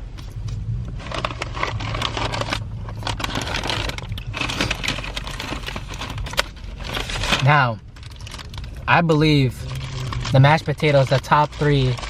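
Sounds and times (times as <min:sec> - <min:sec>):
steady low hum: 0:00.0 - 0:12.0
crackling food packaging: 0:00.1 - 0:12.0.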